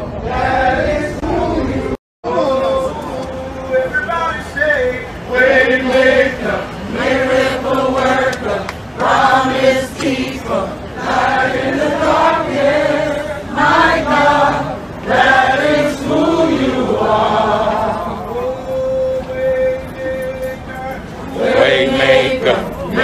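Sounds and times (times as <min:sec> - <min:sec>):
crowd singing in unison: 0:00.0 - 0:04.0, 0:05.2 - 0:23.0.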